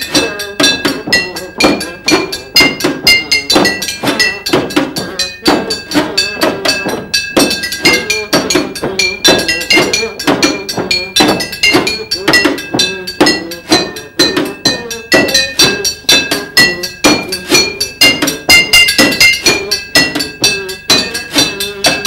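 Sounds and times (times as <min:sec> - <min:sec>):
bright struck notes ringing: 0:00.0 - 0:22.0.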